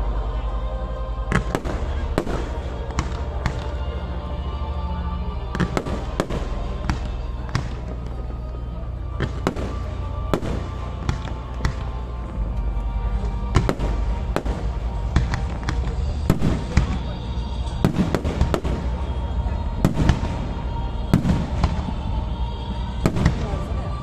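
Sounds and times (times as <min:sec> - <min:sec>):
continuous low rumble: 0:00.0 - 0:24.0
fireworks bangs and crackles: 0:01.3 - 0:04.1, 0:05.5 - 0:12.4, 0:13.1 - 0:24.0.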